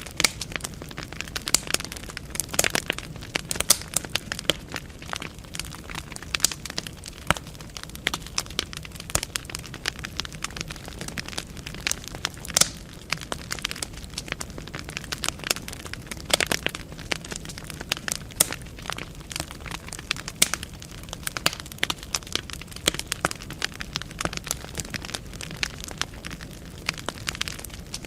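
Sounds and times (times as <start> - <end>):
logs crackling and popping: 0.0 - 28.0
low rumble of flame: 0.0 - 28.0.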